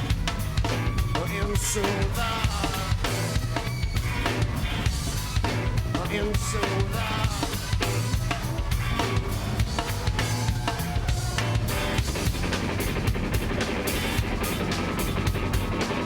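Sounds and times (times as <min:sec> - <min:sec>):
drum kit beat: 0:00.0 - 0:16.0
live rock band playing: 0:00.0 - 0:16.0
low bass line: 0:00.0 - 0:16.0.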